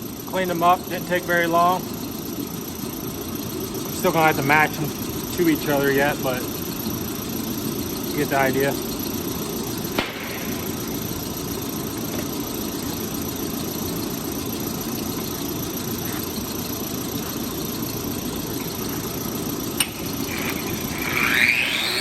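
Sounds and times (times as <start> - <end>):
low mechanical running noise: 0.0 - 22.0.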